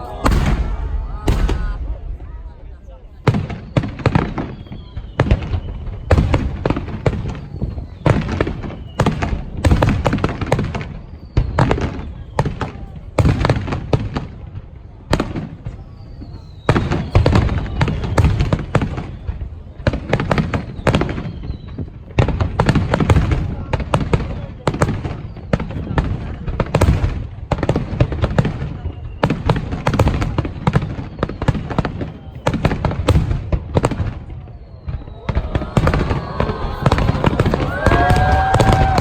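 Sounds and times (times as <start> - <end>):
faint firework whistles: 0.0 - 13.0, 14.8 - 23.6, 24.2 - 26.0, 28.5 - 39.0
fireworks booming and crackling: 0.0 - 39.0.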